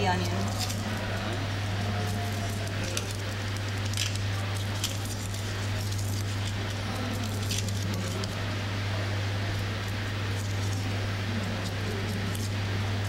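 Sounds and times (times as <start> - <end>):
steady low hum with hiss: 0.0 - 13.0
knife peeling onion skin: 0.2 - 8.6, 9.4 - 13.0.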